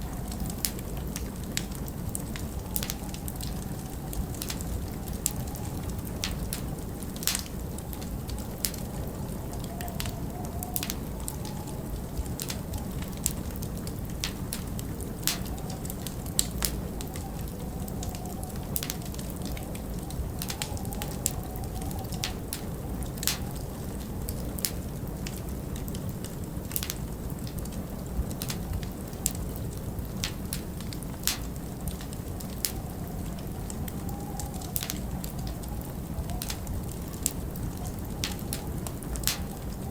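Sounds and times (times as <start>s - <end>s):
faint wavering wind howl: 0.0s - 39.9s
low rumble of wind: 0.0s - 39.9s
wood fire crackling and popping: 0.0s - 39.9s.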